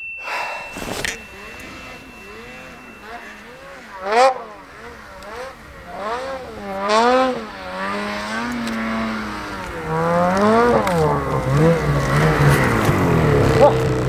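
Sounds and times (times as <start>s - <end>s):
snowmobile engine revving: 0.3s - 14.0s.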